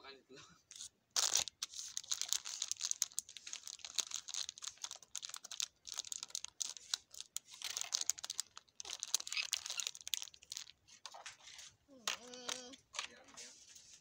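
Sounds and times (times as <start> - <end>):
plastic bag crinkling: 0.7 - 13.2.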